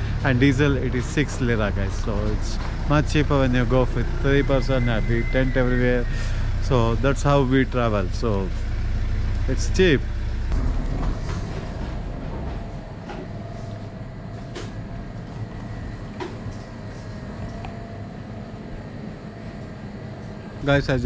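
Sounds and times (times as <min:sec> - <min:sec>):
heavy low rumble: 0:00.0 - 0:21.0
indoor shop hum: 0:00.0 - 0:21.0.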